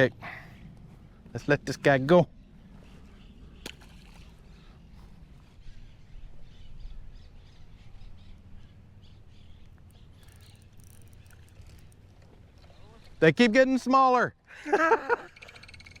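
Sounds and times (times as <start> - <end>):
birds calling: 0.2 - 14.0, 14.6 - 16.0.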